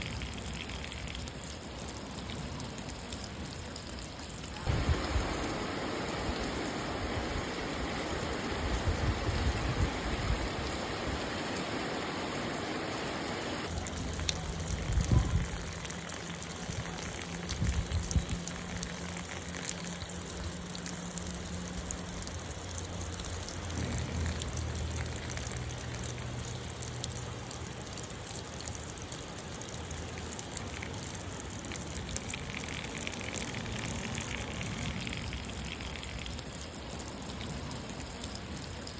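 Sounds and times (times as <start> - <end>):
rain falling: 0.0 - 38.9
water trickling and running: 0.0 - 38.9.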